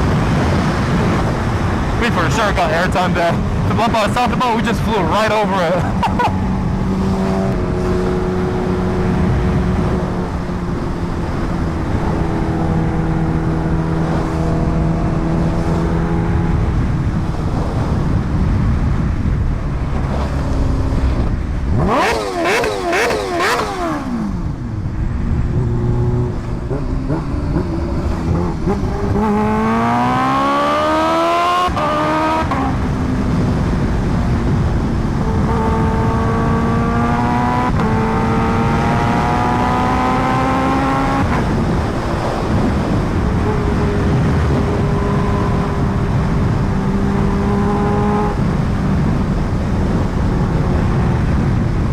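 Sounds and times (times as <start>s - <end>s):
wind noise: 0.0s - 51.9s
motorcycle engine revving: 5.0s - 18.1s, 19.6s - 51.9s.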